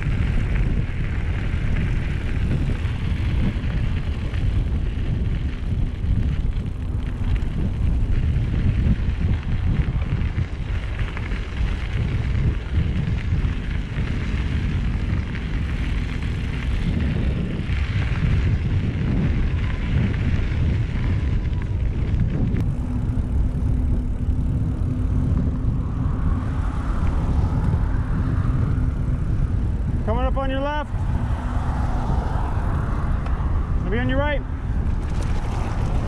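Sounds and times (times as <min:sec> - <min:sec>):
steady low hum: 0:00.0 - 0:36.0
wind buffeting microphone: 0:00.0 - 0:36.0.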